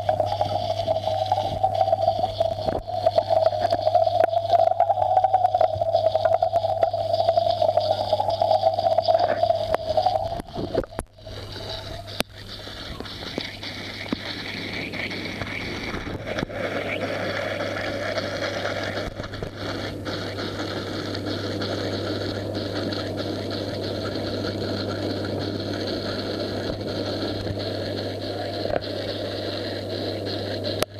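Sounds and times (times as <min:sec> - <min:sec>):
aquarium filter pump hum: 0:00.0 - 0:30.9
loud wavering tone: 0:00.0 - 0:30.9
water rushing through outlet: 0:00.0 - 0:30.9.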